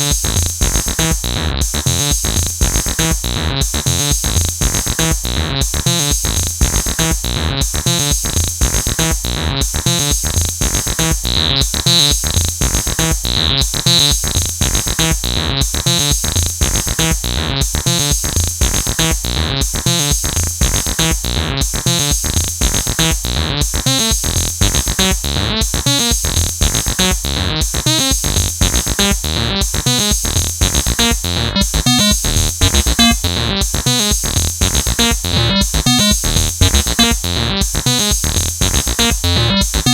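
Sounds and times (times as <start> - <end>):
acid synthesizer line: 0.0 - 39.9
drum machine beat: 0.0 - 39.9.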